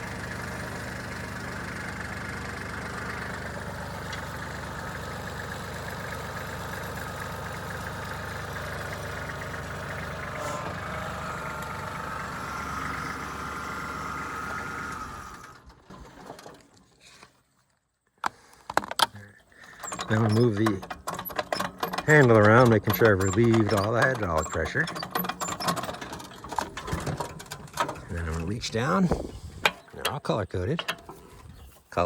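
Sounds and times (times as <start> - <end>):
tractor diesel engine running: 0.0 - 16.7, 19.5 - 32.0.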